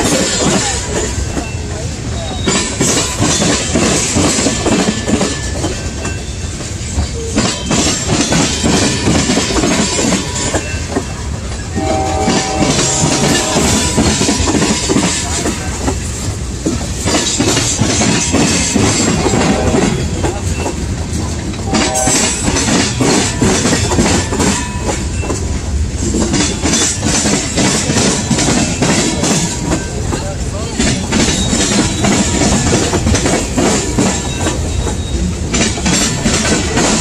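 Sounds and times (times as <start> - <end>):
freight train wheels rumbling on rail: 0.0 - 37.0
wheels clacking over rail joints: 0.0 - 37.0.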